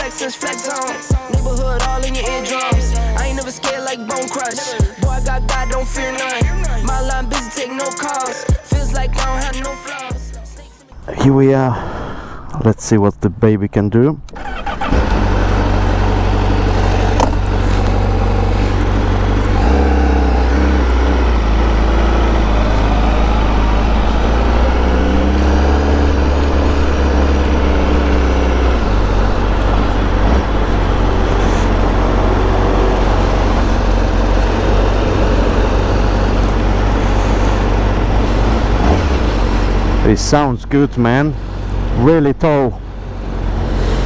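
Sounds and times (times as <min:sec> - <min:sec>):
motorcycle engine revving: 0:00.0 - 0:10.6, 0:14.3 - 0:42.0.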